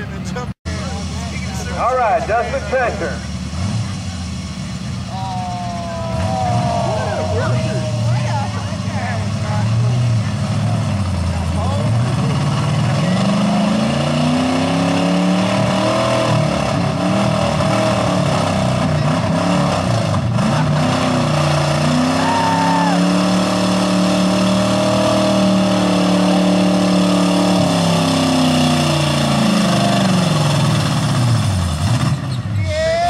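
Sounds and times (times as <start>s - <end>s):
truck engine revving under load: 0.7s - 32.6s.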